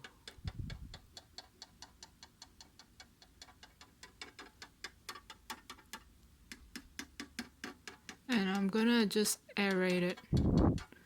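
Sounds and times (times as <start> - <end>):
faint rapid ticking: 0.0 - 11.0.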